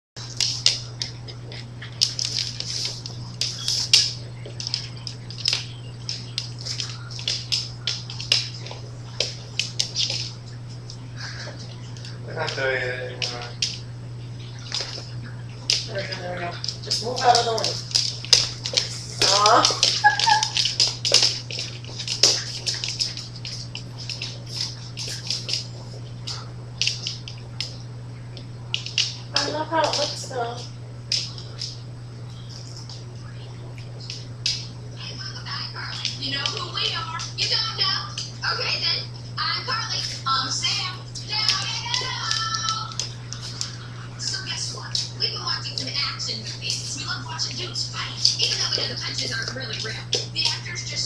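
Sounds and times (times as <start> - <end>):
dog claws clicking on wooden floor: 0.2 - 31.8, 33.8 - 35.2, 35.9 - 38.7, 39.9 - 51.0
steady low hum: 0.2 - 51.0.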